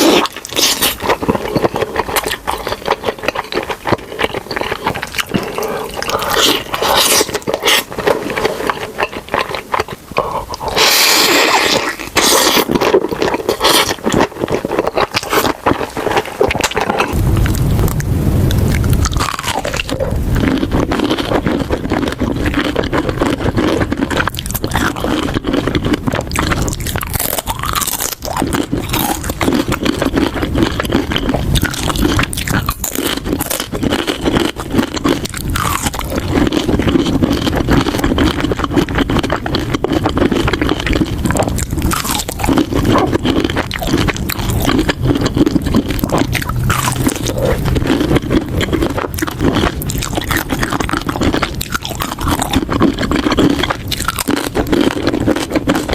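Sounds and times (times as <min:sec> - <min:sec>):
close-miked chewing and biting: 0:00.0 - 0:55.9.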